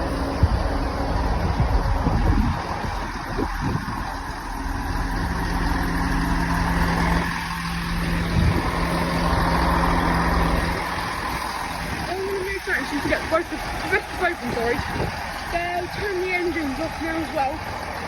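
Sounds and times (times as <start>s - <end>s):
diesel engine idling rumble: 0.0s - 18.0s.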